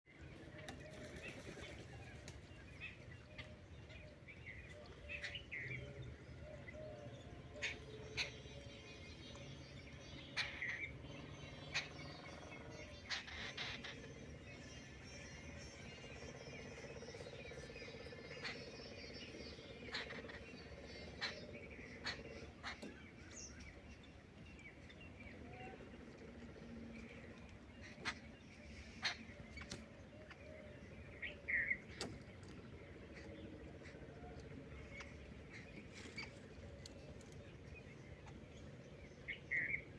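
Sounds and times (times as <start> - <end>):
low background rumble: 0.1 - 39.9
low steady background noise: 0.1 - 39.9.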